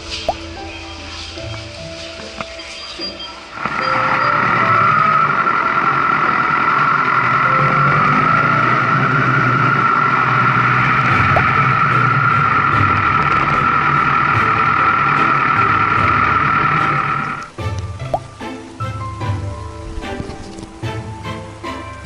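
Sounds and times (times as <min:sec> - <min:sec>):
vehicle engine and road noise: 0:00.0 - 0:18.2.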